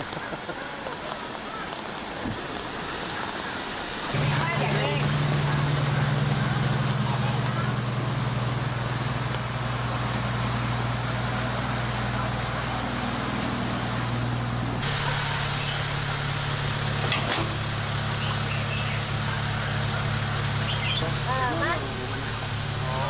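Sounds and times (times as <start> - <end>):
water splashing around wheels: 0.0 - 23.0
truck engine idling: 3.2 - 23.0
truck engine running: 4.1 - 23.0.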